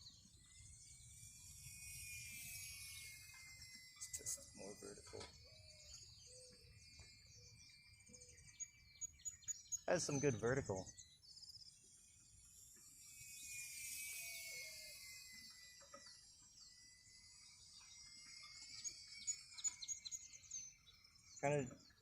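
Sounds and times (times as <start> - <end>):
model plane electric motor whine: 0.0 - 22.0
small birds chirping: 0.0 - 22.0.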